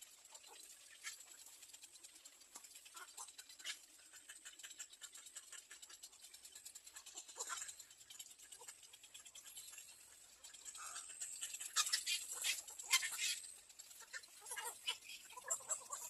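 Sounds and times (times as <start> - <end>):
faint soft scratches and ticks: 0.0 - 16.0.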